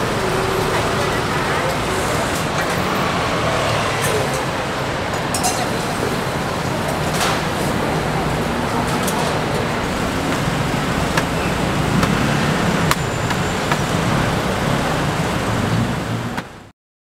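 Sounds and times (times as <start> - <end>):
road traffic: 0.0 - 16.7.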